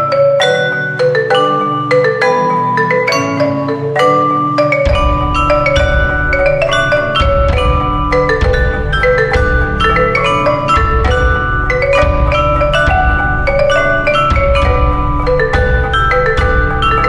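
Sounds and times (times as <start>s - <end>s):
marimba: 0.0s - 17.0s
vibraphone: 0.0s - 17.0s.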